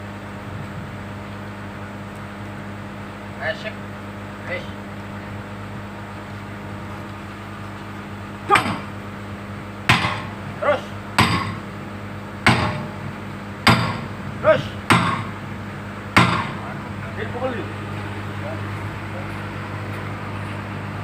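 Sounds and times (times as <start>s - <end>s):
excavator engine idling hum: 0.0s - 21.0s.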